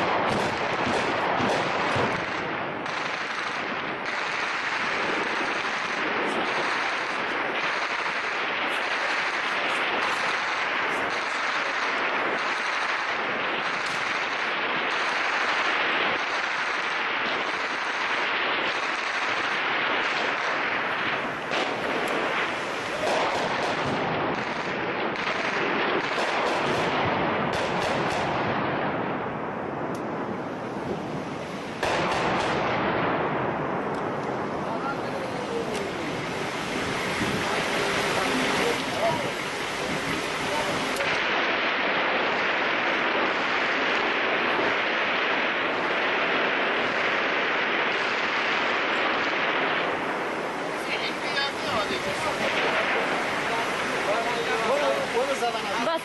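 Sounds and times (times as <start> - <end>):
gunfire cracks: 0.0 - 56.0
steady rushing noise: 0.0 - 56.0.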